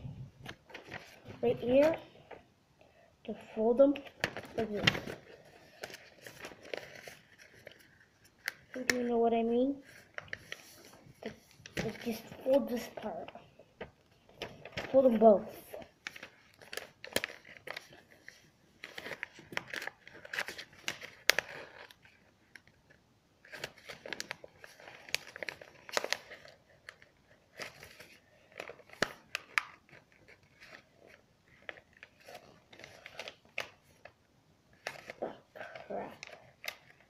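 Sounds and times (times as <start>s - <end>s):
paper rustling and crinkling: 0.1s - 2.4s, 3.6s - 37.0s.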